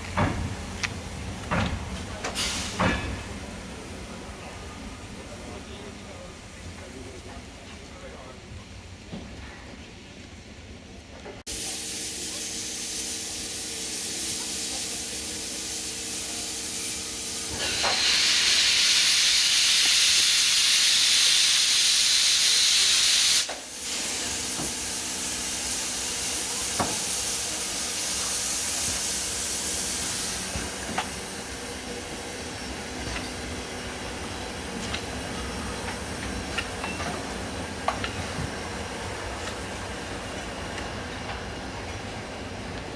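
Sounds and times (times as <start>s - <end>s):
loud hiss of venting steam: 0.0s - 8.3s, 11.4s - 42.7s
steam locomotive hissing: 0.0s - 8.3s, 11.4s - 42.9s.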